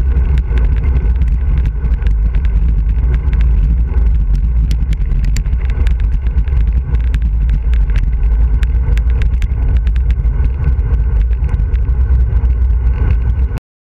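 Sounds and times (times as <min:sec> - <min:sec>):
bike rattling over rough asphalt: 0:00.0 - 0:13.6
tyre and road noise: 0:00.0 - 0:13.6
wind buffeting the microphone: 0:00.0 - 0:13.6.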